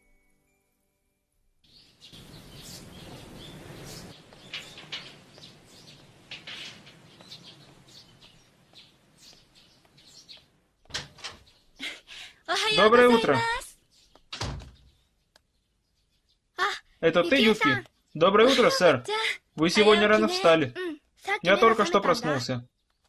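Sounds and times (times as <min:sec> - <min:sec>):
small birds chirping: 0:01.7 - 0:23.0.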